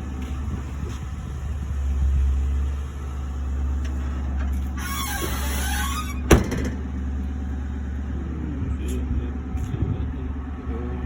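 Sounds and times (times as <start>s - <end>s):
car engine exhaust rumble: 0.0s - 11.0s.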